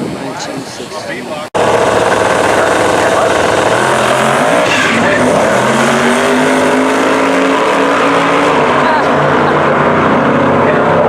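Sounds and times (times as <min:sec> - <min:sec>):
tyre and exhaust rush: 0:00.0 - 0:11.0
car engine revving hard: 0:01.6 - 0:11.0.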